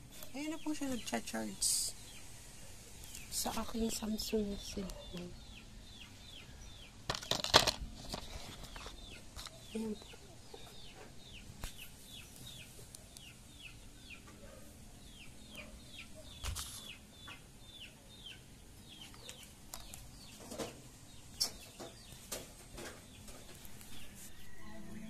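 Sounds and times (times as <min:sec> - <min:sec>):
bird chirping: 0:00.1 - 0:07.4, 0:08.0 - 0:25.0.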